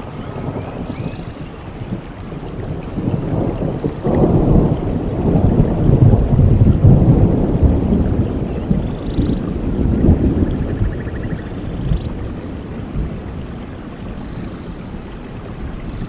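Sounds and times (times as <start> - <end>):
rolling thunder rumble: 0.0 - 16.0
steady rain: 0.0 - 16.0.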